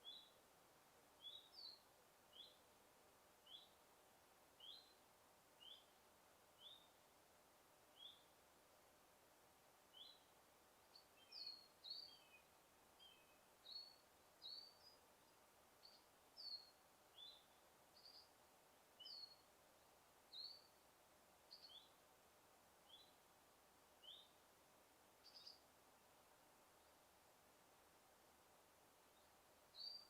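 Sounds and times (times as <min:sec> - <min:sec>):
faint background hiss: 0:00.0 - 0:30.0
forest birds chirping: 0:00.0 - 0:30.0.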